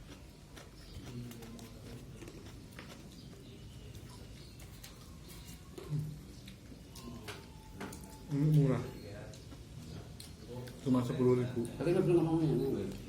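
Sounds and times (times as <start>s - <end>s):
crunchy chewing: 0.0s - 12.0s.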